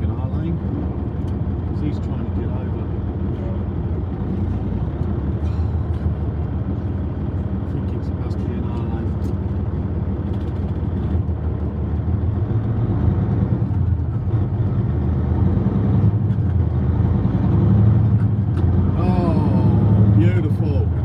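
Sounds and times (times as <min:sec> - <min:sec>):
road noise: 0:00.0 - 0:21.0
truck diesel engine drone: 0:00.0 - 0:21.0.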